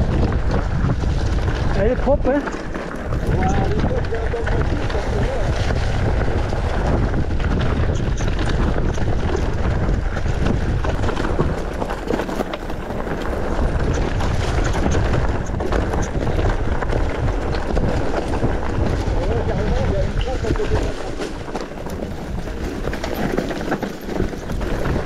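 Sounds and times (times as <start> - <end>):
bike tyre noise: 0.0 - 25.0
wind on microphone: 0.0 - 25.0
rattling clicks from bike: 0.1 - 25.0.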